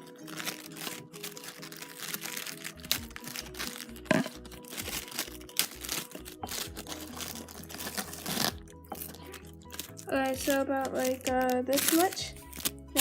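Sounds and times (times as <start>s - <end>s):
background music: 0.0s - 13.0s
parchment paper crinkling: 0.0s - 13.0s.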